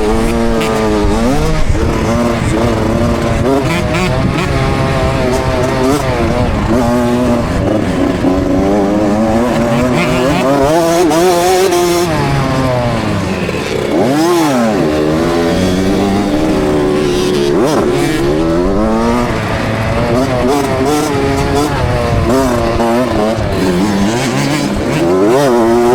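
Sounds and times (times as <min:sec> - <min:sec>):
two-stroke motocross bike revving: 0:00.0 - 0:25.9.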